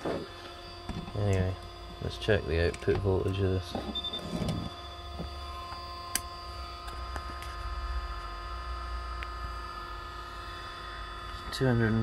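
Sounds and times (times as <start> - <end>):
generator humming: 0.0 - 12.0
whining tones: 0.0 - 12.0.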